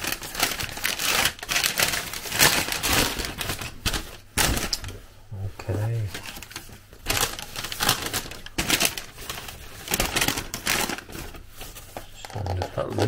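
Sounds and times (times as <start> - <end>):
food packaging rustling and crinkling: 0.0 - 13.0.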